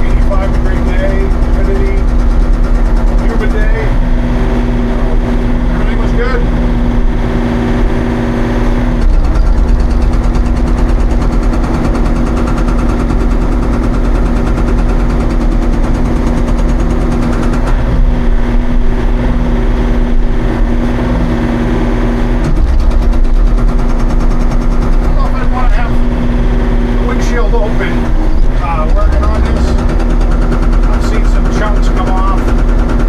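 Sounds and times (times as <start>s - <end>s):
excavator engine running: 0.0s - 33.0s
hydraulic breaker pounding rock: 0.0s - 33.0s.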